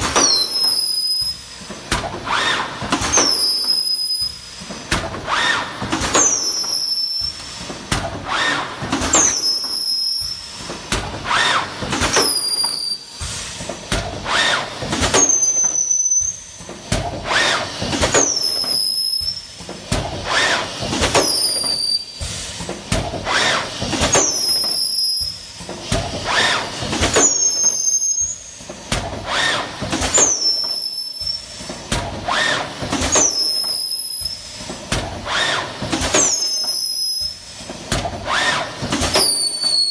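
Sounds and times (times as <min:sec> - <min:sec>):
machine hissing: 0:00.0 - 0:39.9.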